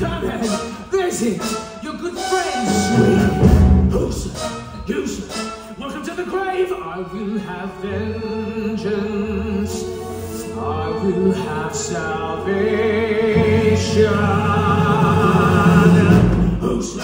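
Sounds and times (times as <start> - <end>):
orchestra playing dramatic music: 0.0 - 17.0.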